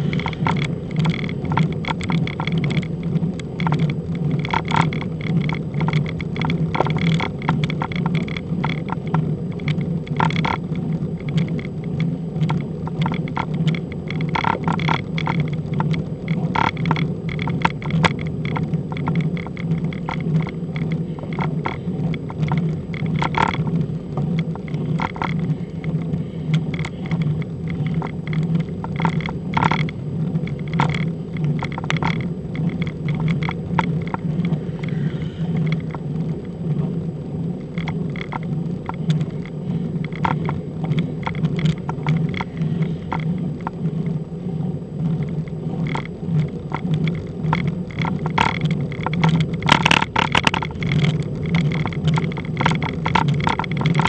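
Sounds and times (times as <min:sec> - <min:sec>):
bicycle clicks and rattles: 0:00.0 - 0:54.0
bicycle rolling on tarmac: 0:00.0 - 0:54.0.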